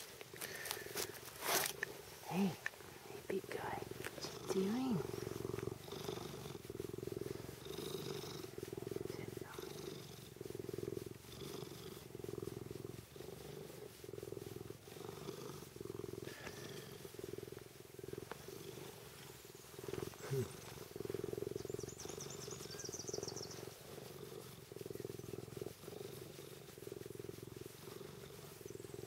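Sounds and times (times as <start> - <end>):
cat purring: 0.0 - 29.0.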